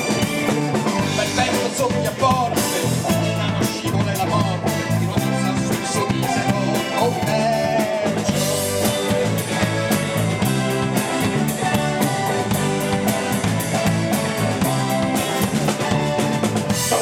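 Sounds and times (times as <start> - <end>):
drum kit: 0.0 - 17.0
electric bass: 0.0 - 17.0
electric guitars: 0.0 - 17.0
keyboards: 0.0 - 17.0.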